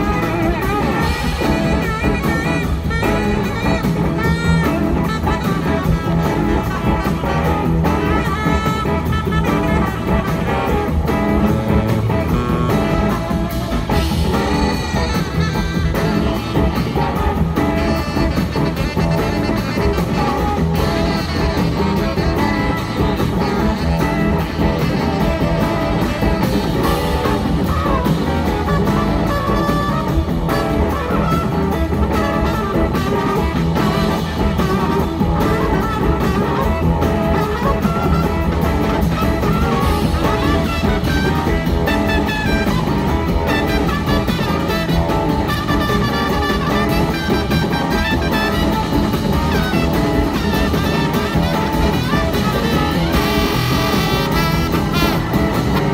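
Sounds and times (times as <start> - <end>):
drums: 0.0 - 55.9
electric guitars: 0.0 - 55.9
horn section: 0.0 - 55.9.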